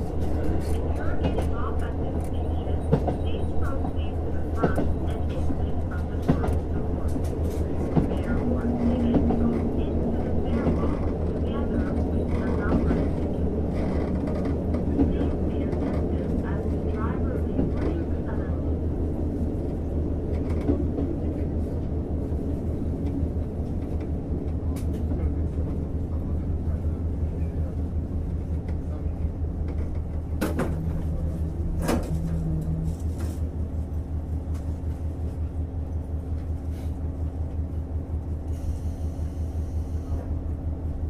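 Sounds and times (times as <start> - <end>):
wheels rumbling on rails: 0.0 - 38.8
diesel engine drone: 0.0 - 40.9.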